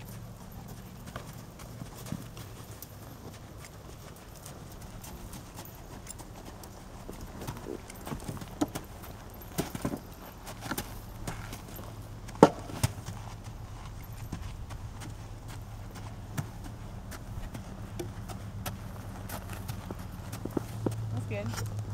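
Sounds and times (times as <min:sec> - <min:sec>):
hooves clip-clopping on gravel: 0:00.0 - 0:21.9
hooves knocking wooden poles: 0:00.0 - 0:21.9.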